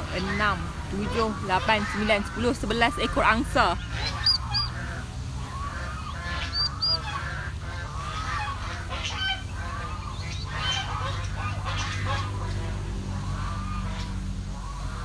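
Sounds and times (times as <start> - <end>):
geese honking: 0.0 - 15.0
steady low hum: 0.0 - 15.0.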